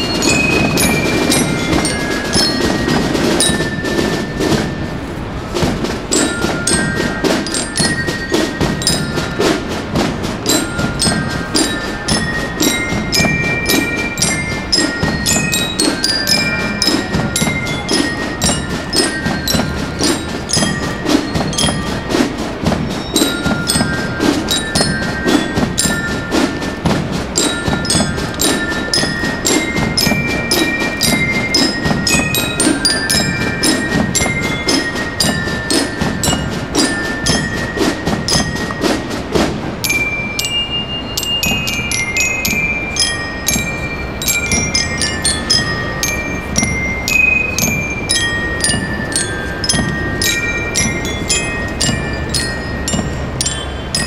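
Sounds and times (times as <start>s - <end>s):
bell lyres ringing melody: 0.0s - 54.0s
even drum beat: 0.0s - 54.0s
marching band playing: 0.0s - 54.0s.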